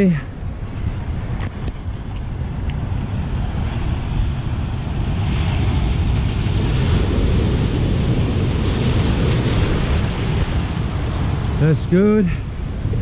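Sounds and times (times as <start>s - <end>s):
waves surging and foaming: 0.0s - 13.0s
wind buffeting microphone: 0.0s - 13.0s.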